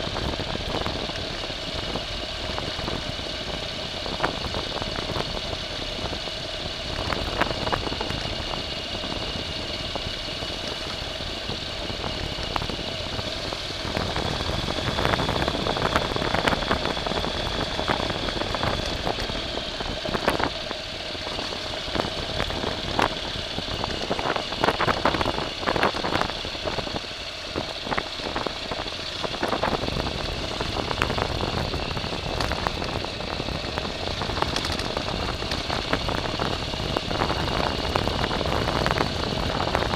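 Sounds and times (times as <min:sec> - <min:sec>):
vehicle motor whining: 0:00.0 - 0:39.9.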